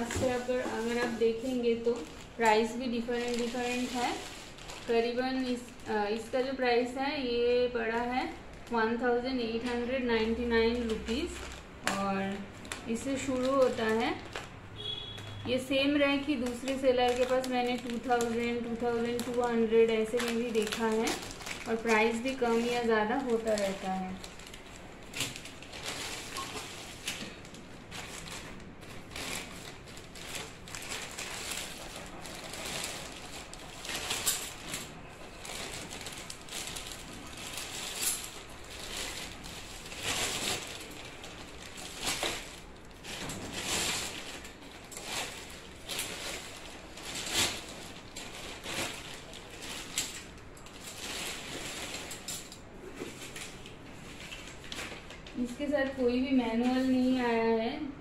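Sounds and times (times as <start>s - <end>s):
plastic film crinkling: 0.0s - 57.2s.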